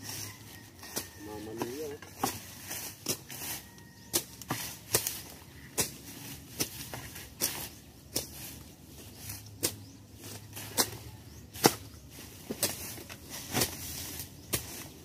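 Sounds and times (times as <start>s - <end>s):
dry vegetation rustling: 0.0s - 15.0s
hoe striking ground: 0.8s - 8.6s, 9.3s - 15.0s.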